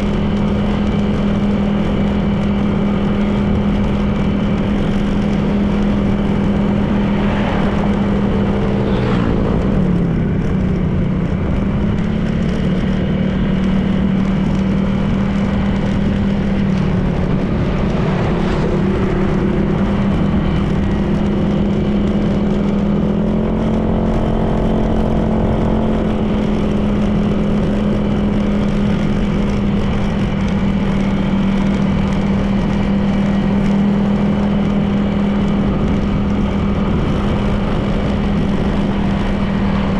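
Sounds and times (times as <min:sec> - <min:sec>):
passing traffic engines: 0:00.0 - 0:39.9
scooter engine running: 0:00.0 - 0:39.9
wind and road noise: 0:00.0 - 0:39.9.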